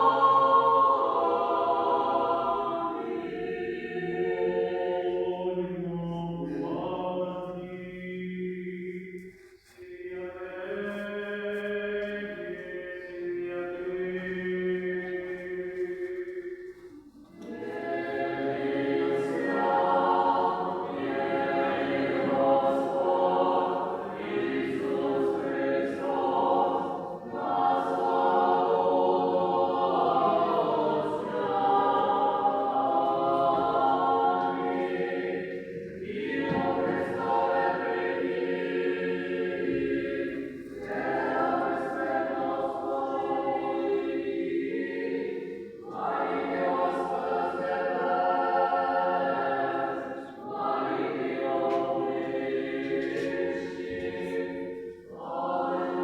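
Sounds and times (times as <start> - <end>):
choir singing unaccompanied chant: 0.0 - 56.0.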